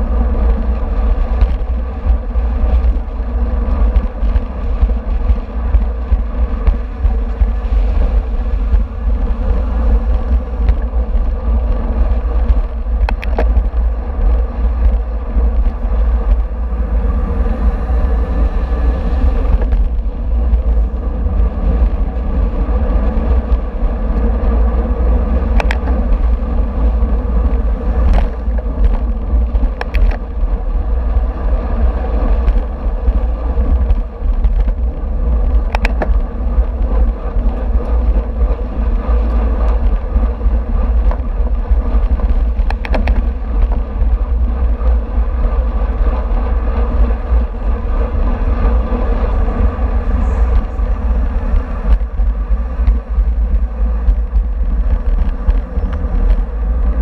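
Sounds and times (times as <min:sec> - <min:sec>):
tyre and road noise: 0:00.0 - 0:57.0
wind rushing over microphone: 0:00.0 - 0:57.0.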